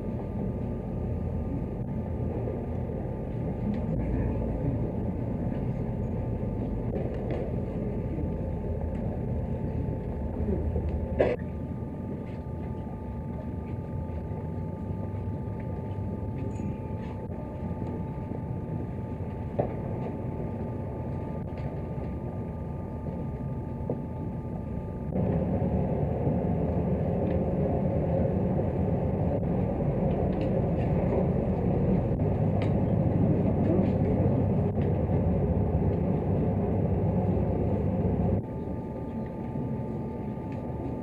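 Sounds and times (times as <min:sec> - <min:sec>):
crowded hall rumble: 0:00.0 - 0:41.0
faint constant hum: 0:00.0 - 0:41.0.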